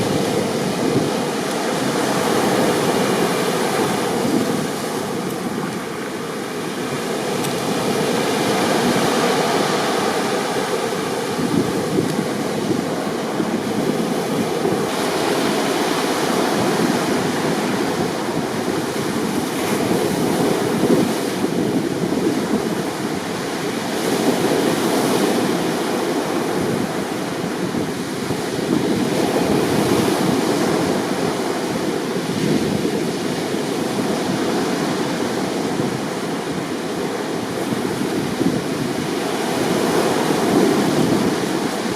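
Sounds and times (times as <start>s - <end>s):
heavy surf breaking: 0.0s - 41.9s.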